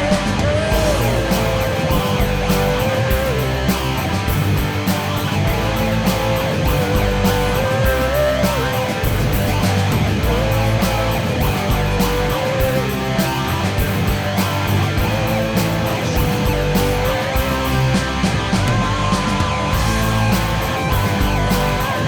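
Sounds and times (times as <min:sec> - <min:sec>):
drums: 0:00.0 - 0:22.0
electric guitars: 0:00.0 - 0:22.0
rock band music: 0:00.0 - 0:22.0.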